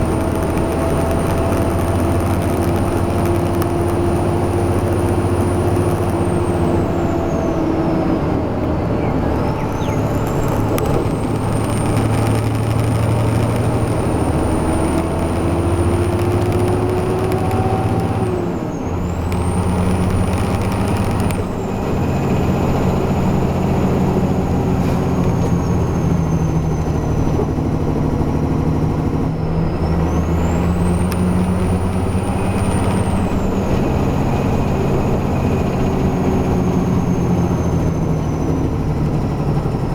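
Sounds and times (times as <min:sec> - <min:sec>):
heavy truck engine under load: 0:00.0 - 0:39.9.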